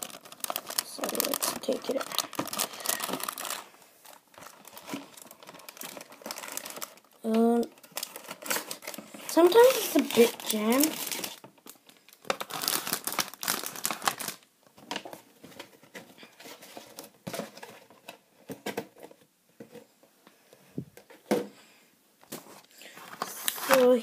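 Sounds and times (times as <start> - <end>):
plastic wrapper crinkling: 0.0 - 18.2, 22.4 - 24.0.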